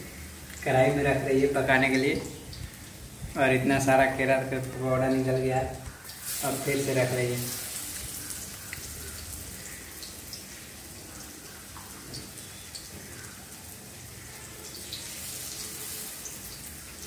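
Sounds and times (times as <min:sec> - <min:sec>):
batter deep-frying in oil: 0:00.0 - 0:17.0.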